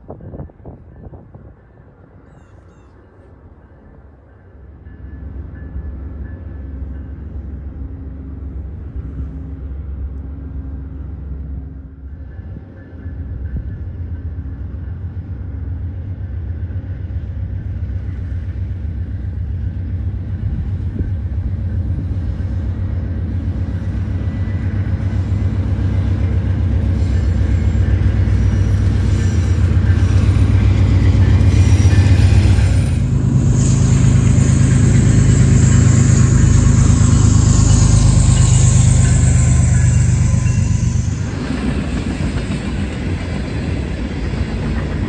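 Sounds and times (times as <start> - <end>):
diesel locomotive rumbling: 0.0 - 45.0.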